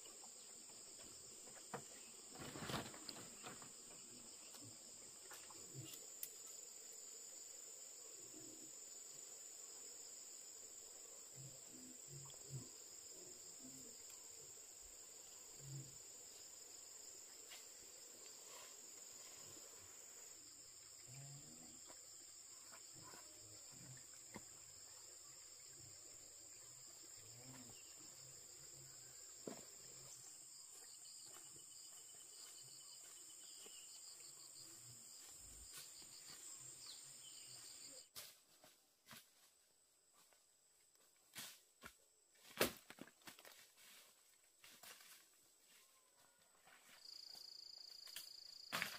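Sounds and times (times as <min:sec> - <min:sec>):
high-pitched insect chorus: 0:00.0 - 0:38.1, 0:46.8 - 0:48.9.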